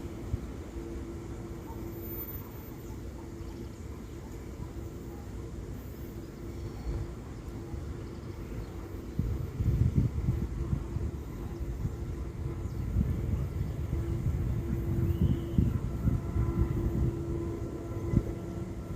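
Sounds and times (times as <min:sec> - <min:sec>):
locomotive engines droning: 0:00.0 - 0:18.9.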